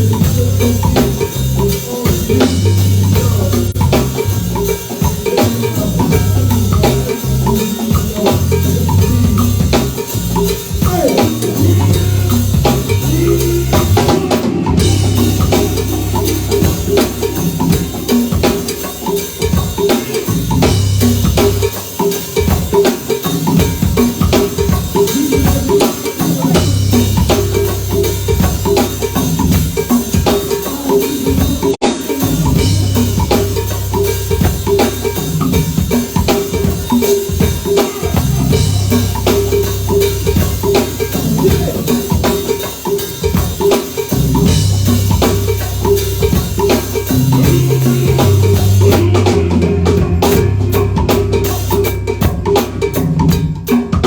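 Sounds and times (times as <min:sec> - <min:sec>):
bass line: 0:00.0 - 0:21.8, 0:23.5 - 0:43.0, 0:44.1 - 0:53.4
drum kit: 0:00.0 - 0:54.0
live band music: 0:00.0 - 0:54.0.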